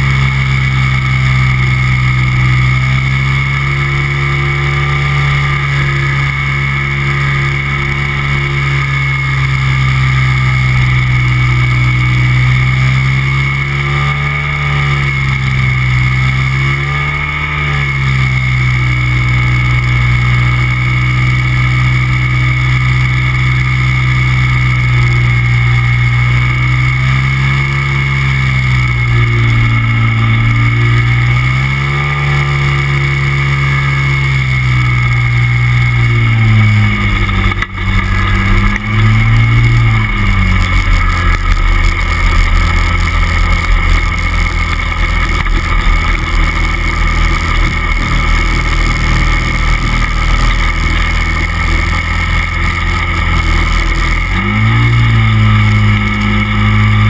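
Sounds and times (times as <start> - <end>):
microlight engine and propeller running: 0.0 - 57.0.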